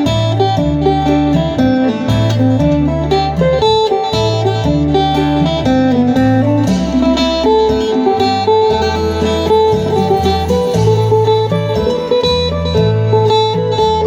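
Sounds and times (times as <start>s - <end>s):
low bass notes: 0.0s - 14.0s
plucked lute melody: 0.0s - 14.0s.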